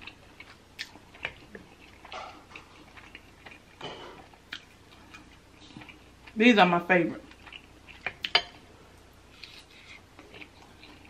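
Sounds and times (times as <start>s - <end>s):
soft chewing with wet clicks: 0.0s - 11.0s.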